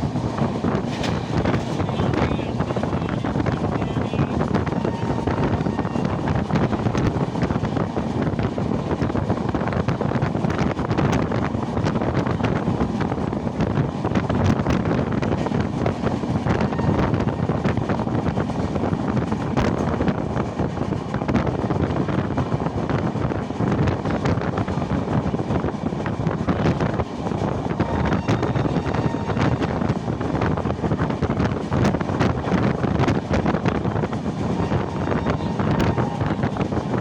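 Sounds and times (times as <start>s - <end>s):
train wheels rumbling on rails: 0.0s - 37.0s
wind buffeting microphone: 0.0s - 37.0s.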